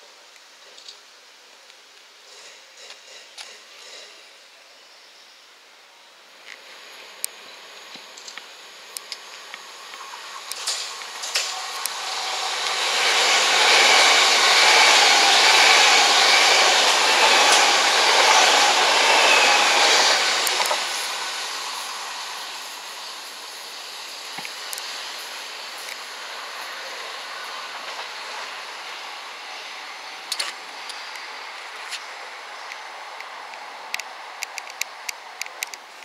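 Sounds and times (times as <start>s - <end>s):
train wheel and rail noise: 0.0s - 36.0s.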